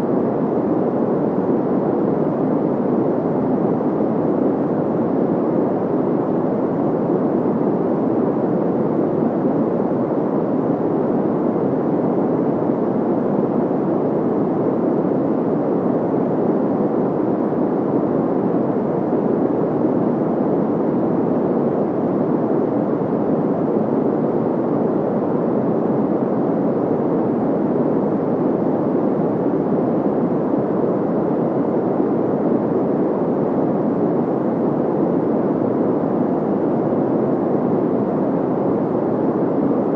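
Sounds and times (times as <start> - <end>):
muffled white noise: 0.0 - 39.9.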